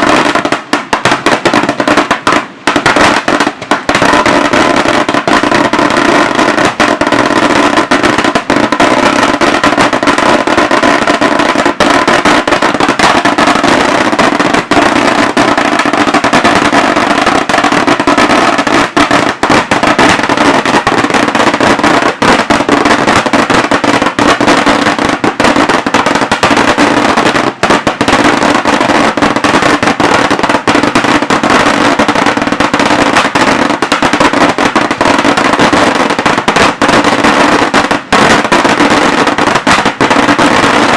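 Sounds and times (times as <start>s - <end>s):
firecracker barrage: 0.0s - 40.9s.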